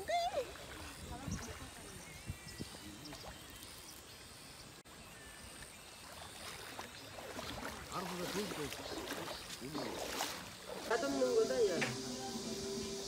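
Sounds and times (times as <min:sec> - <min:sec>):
wading through river water: 0:00.0 - 0:13.0.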